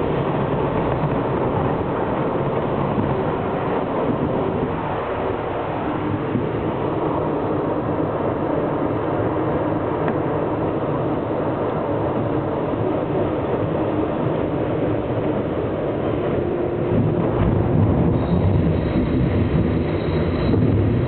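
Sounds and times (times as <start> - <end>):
subway train running: 0.0 - 21.0.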